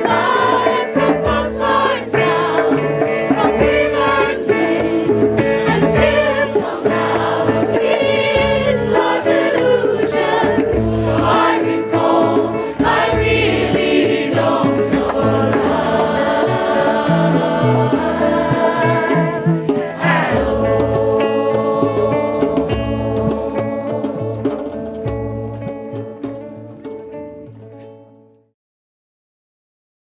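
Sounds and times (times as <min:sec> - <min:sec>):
mixed choir singing: 0:00.0 - 0:25.2
djembe hits: 0:00.0 - 0:27.6
bass: 0:00.0 - 0:28.5
guitar: 0:00.0 - 0:28.5.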